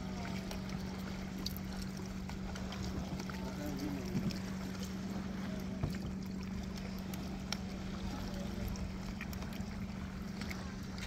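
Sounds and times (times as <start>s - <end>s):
steady low hum: 0.0s - 11.0s
water noise: 0.0s - 11.0s.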